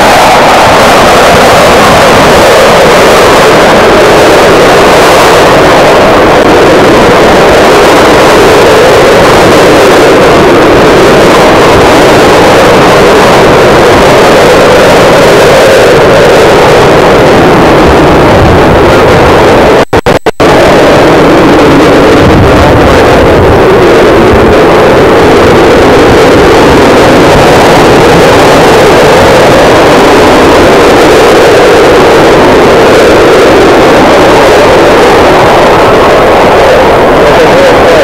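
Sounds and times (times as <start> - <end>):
jet aircraft roar: 0.0 - 38.0.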